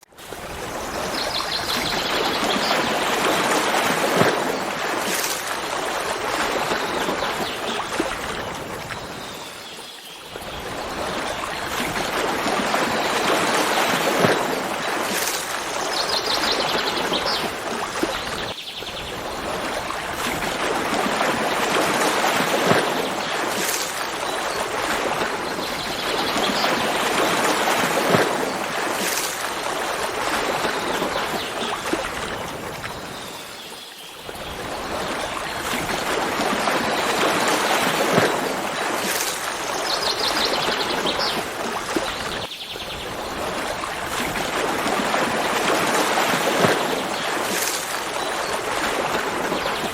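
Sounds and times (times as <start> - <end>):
stream water rushing: 0.0 - 49.9.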